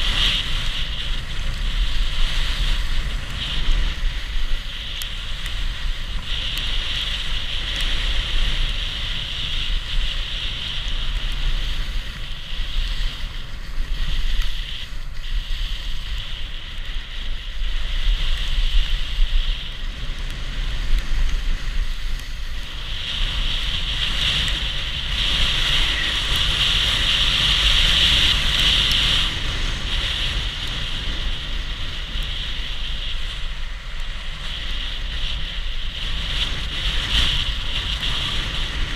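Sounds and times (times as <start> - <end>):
skis sliding over snow: 0.0 - 38.9
wind rushing over microphone: 0.0 - 38.9.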